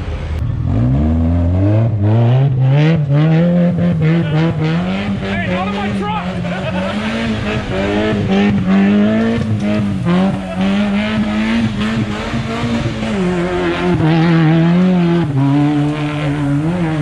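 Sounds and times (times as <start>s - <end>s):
kart engine running hard: 0.0s - 17.0s.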